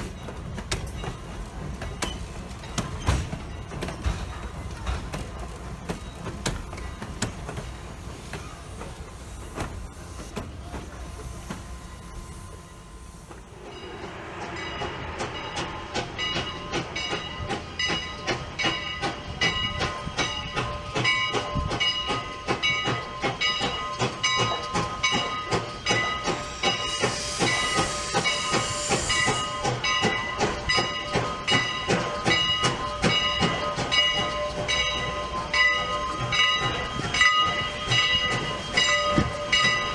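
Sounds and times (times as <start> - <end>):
steam hiss: 0.0 - 39.9
train wheels clicking over rail joints: 0.0 - 39.9.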